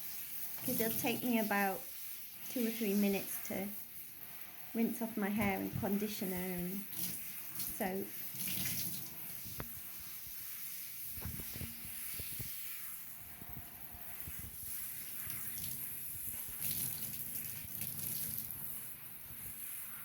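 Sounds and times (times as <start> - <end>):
shower spraying water: 0.0 - 20.0.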